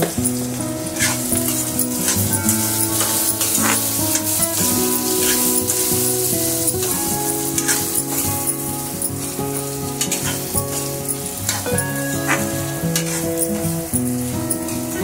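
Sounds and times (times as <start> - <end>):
background music: 0.0 - 15.0
vegetables sizzling in oil: 0.0 - 15.0.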